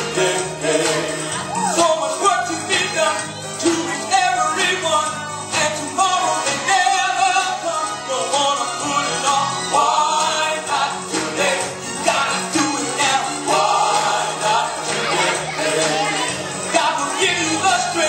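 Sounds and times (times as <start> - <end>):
gospel song with band: 0.0 - 18.0.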